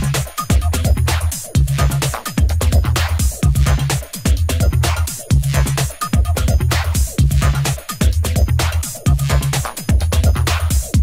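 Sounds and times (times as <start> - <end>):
breakbeat drums: 0.0 - 11.0
heavy bass line: 0.0 - 11.0.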